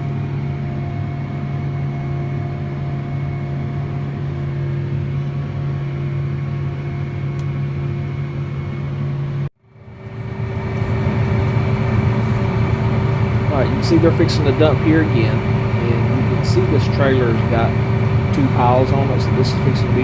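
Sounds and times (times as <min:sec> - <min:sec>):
tractor engine drone: 0:00.0 - 0:20.0.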